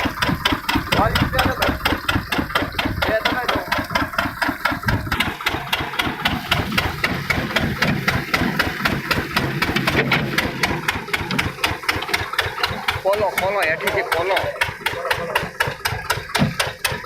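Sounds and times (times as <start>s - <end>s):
engine knocking steadily: 0.0s - 17.0s.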